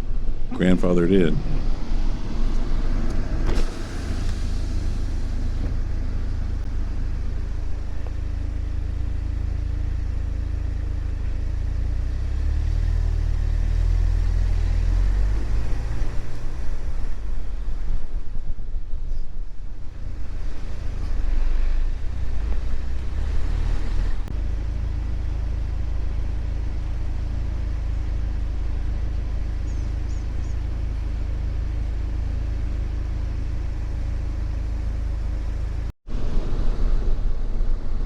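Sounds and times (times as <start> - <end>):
car road and tyre rumble: 0.0 - 38.0.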